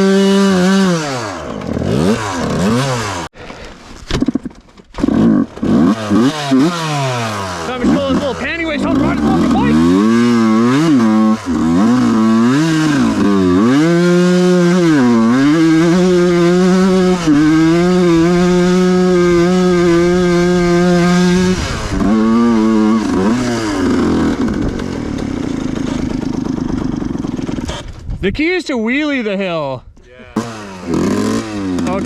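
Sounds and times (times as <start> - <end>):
dirt bike engine revving: 0.0 - 3.3, 4.2 - 28.0, 30.3 - 32.0.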